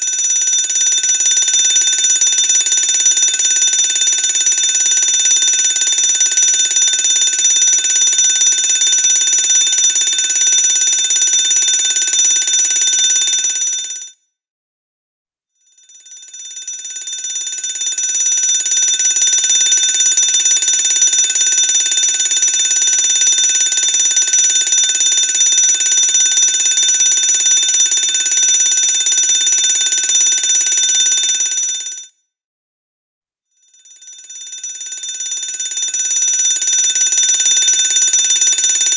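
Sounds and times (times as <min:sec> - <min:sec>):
fire alarm ringing: 0:00.0 - 0:13.6, 0:16.8 - 0:31.7, 0:34.1 - 0:38.9.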